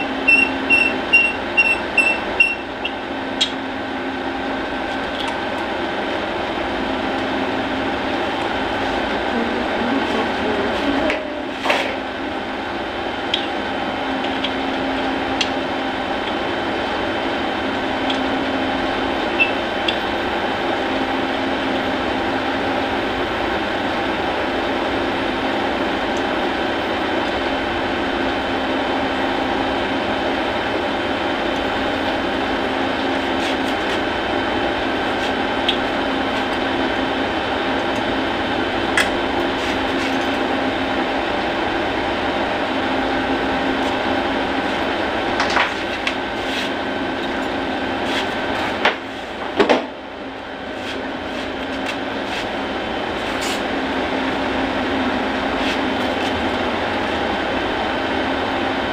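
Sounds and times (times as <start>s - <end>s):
refrigeration equipment humming: 0.0s - 58.9s.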